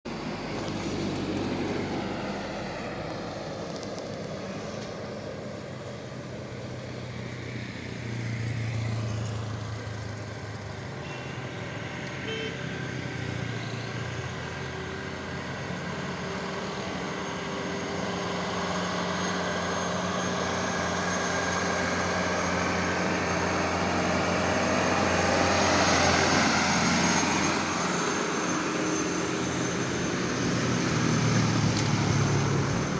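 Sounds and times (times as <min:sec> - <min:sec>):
road noise: 0:00.1 - 0:32.9
truck engines passing: 0:00.1 - 0:32.9.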